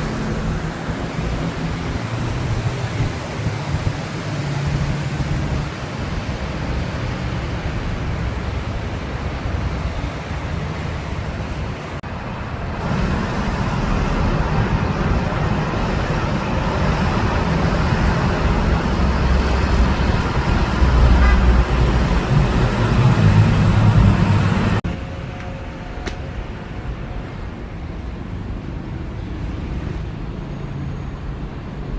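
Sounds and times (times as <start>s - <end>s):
heavy low engine hum: 0.0s - 31.9s
passing vehicles: 0.0s - 31.9s.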